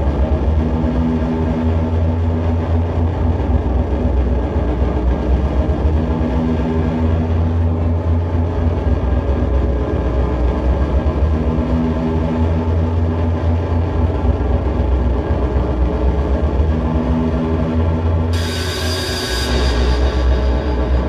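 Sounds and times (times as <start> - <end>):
dense noise wash: 0.0 - 21.0
low rumbling drone: 0.0 - 21.0
steady hum: 0.0 - 21.0.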